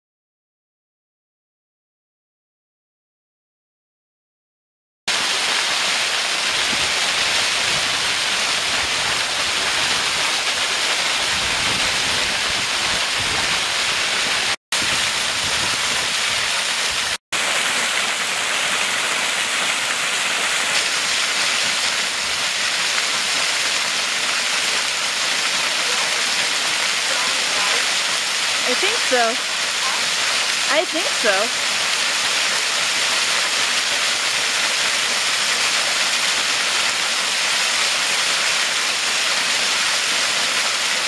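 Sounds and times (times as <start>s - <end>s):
water pouring over rocks: 5.1s - 41.0s.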